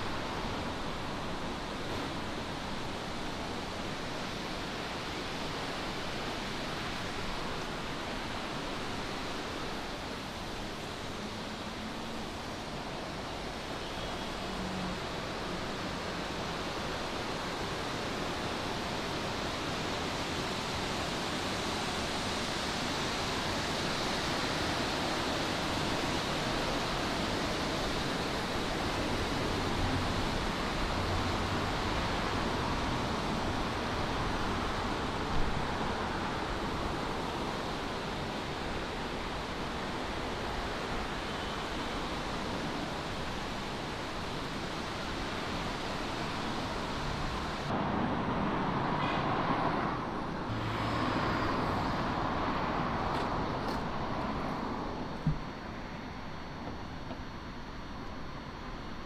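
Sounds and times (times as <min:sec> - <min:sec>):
outdoor ambience rushing noise: 0:00.0 - 0:59.0.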